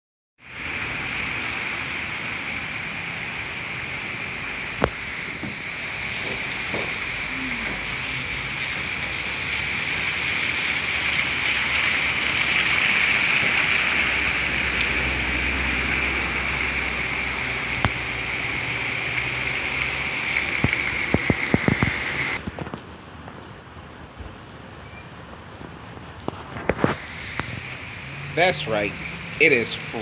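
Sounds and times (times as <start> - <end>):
steady rain hissing: 0.4 - 30.0.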